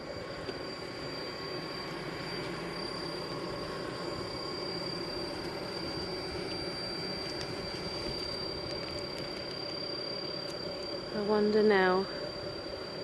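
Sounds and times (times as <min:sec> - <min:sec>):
constant high whine: 0:00.0 - 0:13.0
steady humming drone: 0:00.0 - 0:13.0.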